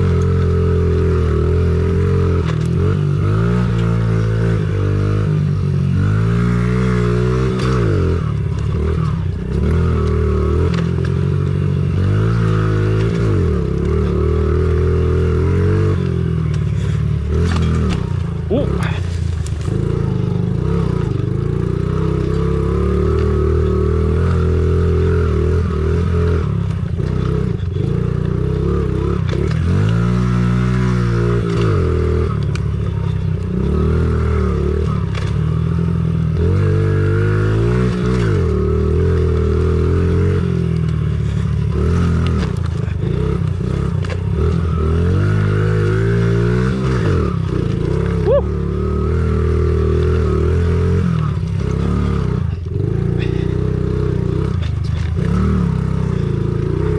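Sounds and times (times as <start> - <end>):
small motorbike engine revving: 0.0 - 56.9.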